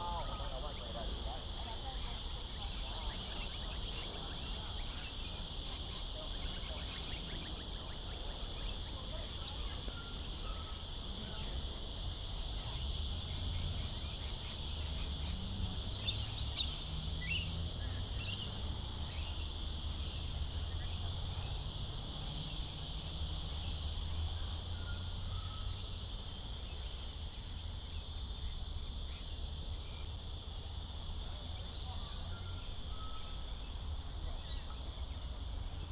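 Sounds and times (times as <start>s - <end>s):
crickets chirping: 0.0s - 35.9s
high insect drone: 0.0s - 35.9s.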